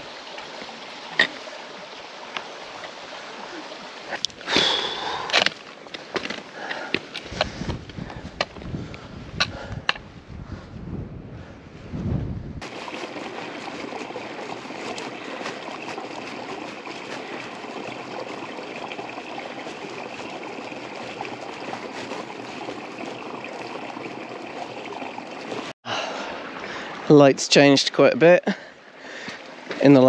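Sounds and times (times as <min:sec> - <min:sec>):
mountain stream rushing: 0:00.0 - 0:07.7, 0:12.6 - 0:30.0.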